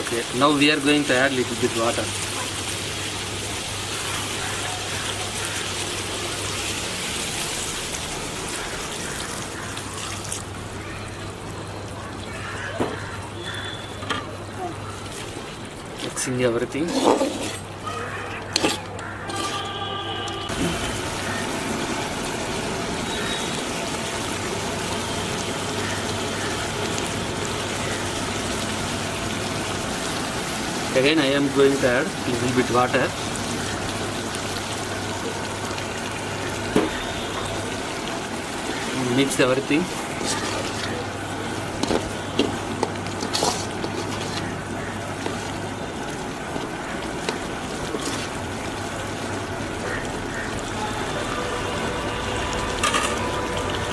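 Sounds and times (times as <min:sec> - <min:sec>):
food sizzling in a pan: 0:00.0 - 0:11.6, 0:12.2 - 0:19.7, 0:20.4 - 0:53.9.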